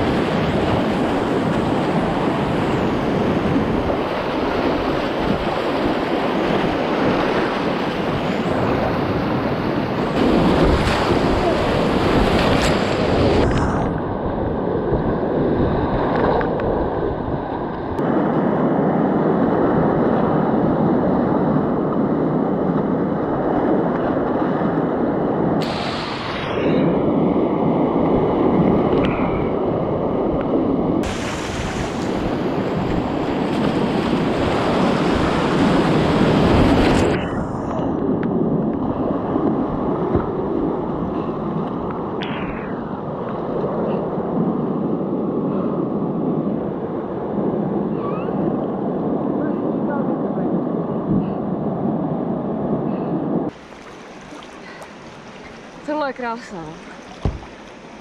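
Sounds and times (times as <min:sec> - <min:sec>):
wind noise on microphone: 0:00.0 - 0:55.7, 0:57.0 - 0:58.0.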